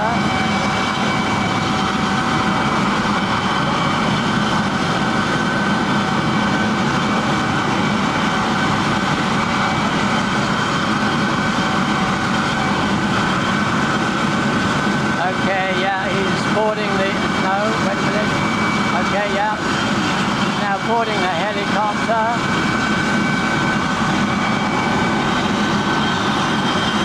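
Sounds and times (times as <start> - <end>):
helicopter turbine whine: 0.0 - 27.0.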